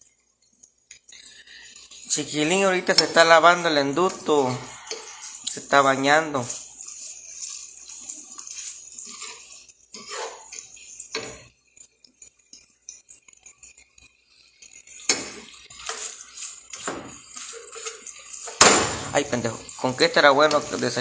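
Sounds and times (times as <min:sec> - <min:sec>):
pots and utensils clinking: 0:00.9 - 0:21.0.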